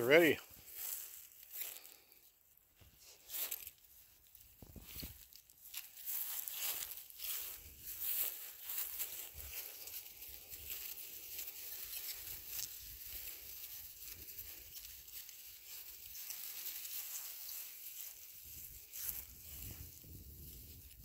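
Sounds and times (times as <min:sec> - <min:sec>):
rustling in dry grass and leaves: 0:00.0 - 0:21.0.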